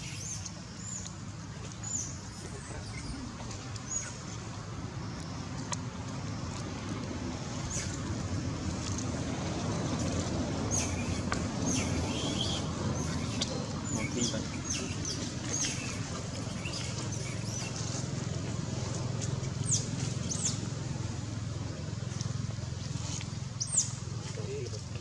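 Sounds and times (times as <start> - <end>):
birds chirping: 0.0 - 6.9, 10.6 - 25.0
low background rumble: 0.0 - 25.0.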